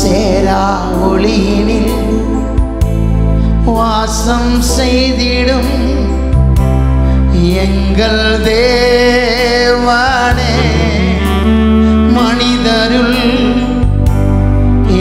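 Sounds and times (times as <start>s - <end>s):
man singing into a microphone: 0.0s - 2.7s, 3.5s - 6.4s, 7.1s - 14.2s, 14.8s - 15.0s
instrumental backing with bass: 0.0s - 15.0s.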